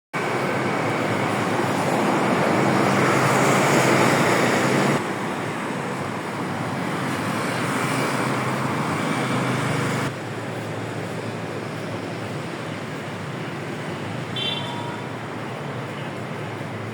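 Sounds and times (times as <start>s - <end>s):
wind: 0.1s - 16.9s.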